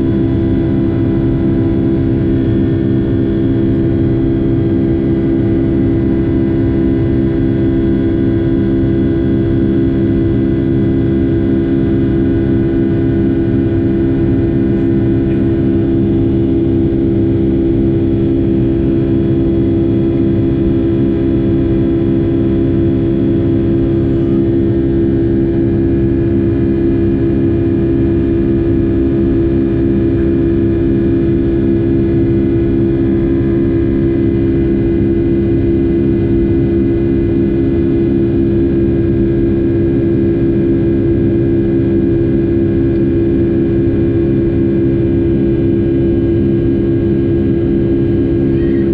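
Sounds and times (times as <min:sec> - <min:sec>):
jet engines at high thrust: 0:00.0 - 0:48.9.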